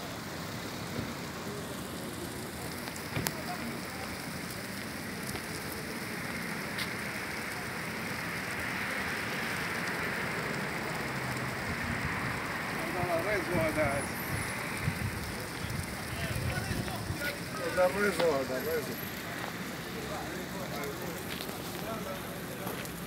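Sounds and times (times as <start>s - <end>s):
flame jet hissing and crackling: 0.0s - 23.0s.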